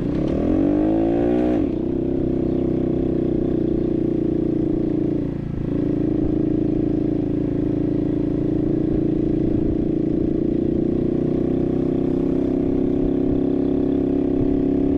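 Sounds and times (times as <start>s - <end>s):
moped engine running: 0.0s - 14.9s.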